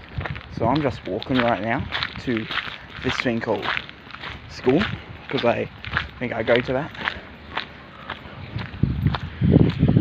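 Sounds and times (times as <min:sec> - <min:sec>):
footsteps on wet ground: 0:00.0 - 0:10.0.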